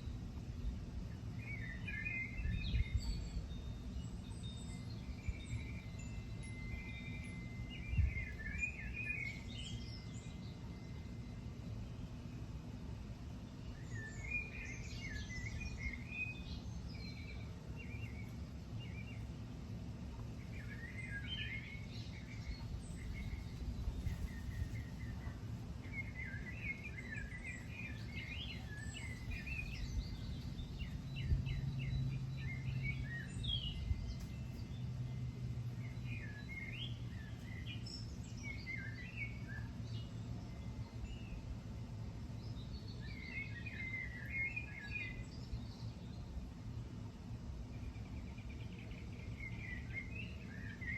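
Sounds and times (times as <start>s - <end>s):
songbirds chirping and trilling: 0.0s - 50.9s
steady low rumble: 2.3s - 43.2s.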